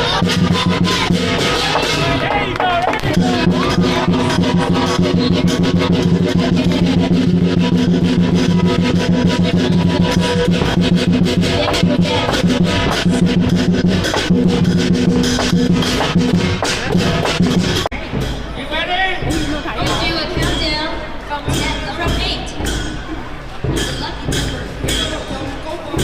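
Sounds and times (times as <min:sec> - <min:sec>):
cymbals clashing: 0:00.0 - 0:26.0
drum beaten fast: 0:00.0 - 0:26.0.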